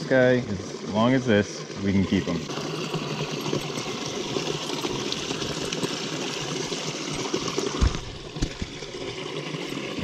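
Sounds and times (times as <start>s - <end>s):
small waterfall splashing: 0.0s - 10.0s.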